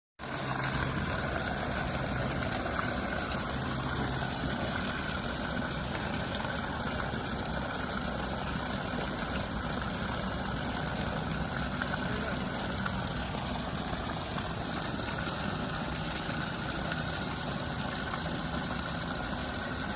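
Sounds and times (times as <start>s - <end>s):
pump engine droning: 0.2s - 19.9s.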